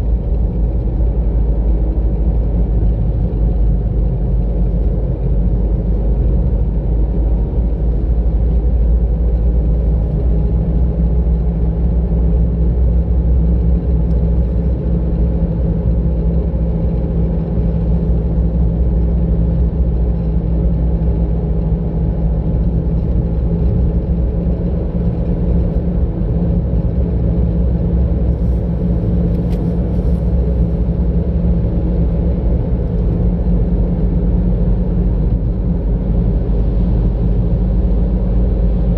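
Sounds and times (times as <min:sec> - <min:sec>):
car engine rumble: 0:00.0 - 0:38.9
tyre road noise: 0:00.0 - 0:38.9.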